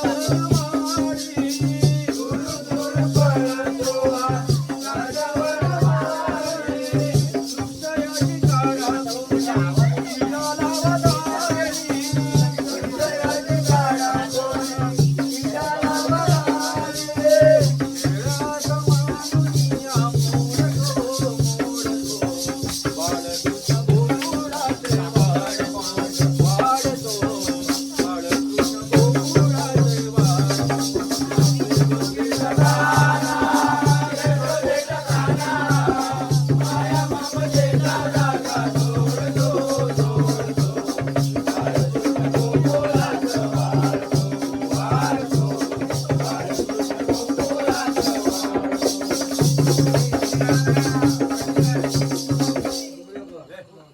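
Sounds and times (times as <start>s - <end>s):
person singing: 0.0s - 52.1s
rattling percussion rhythm: 0.0s - 53.3s.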